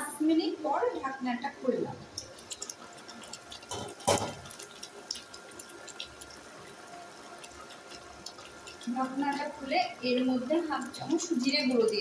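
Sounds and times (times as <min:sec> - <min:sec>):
sauce simmering and bubbling: 0:02.0 - 0:12.0.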